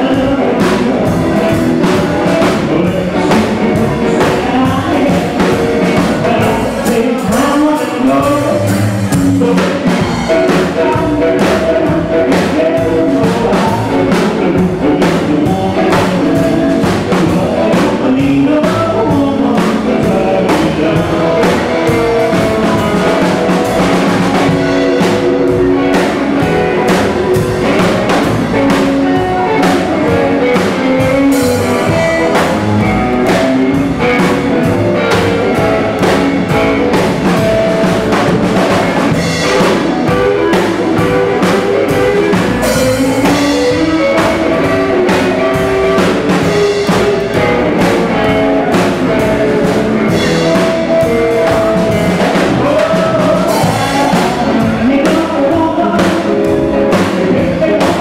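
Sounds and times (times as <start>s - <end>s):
drum kit: 0.0s - 58.0s
electric guitar: 0.0s - 58.0s
upright double bass: 0.0s - 58.0s.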